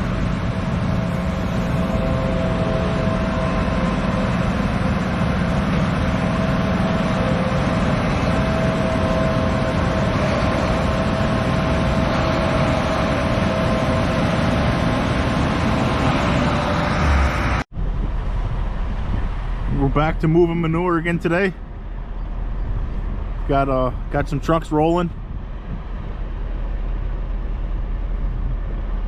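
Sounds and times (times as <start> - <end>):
steady whine: 0.0 - 29.0
tractor diesel engine running: 0.0 - 29.0.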